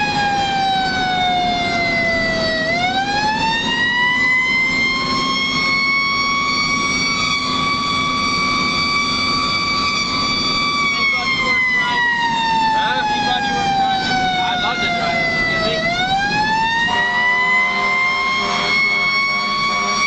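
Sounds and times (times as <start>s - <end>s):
low engine hum: 0.0s - 17.8s
fire engine siren: 0.0s - 20.0s.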